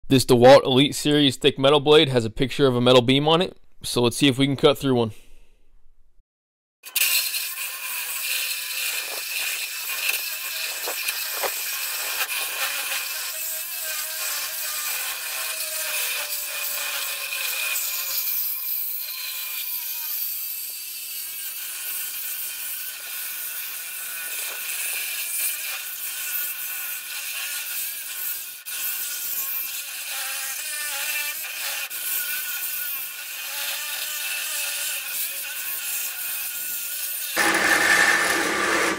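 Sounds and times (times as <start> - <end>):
reciprocating saw cutting steel: 6.8 - 38.9.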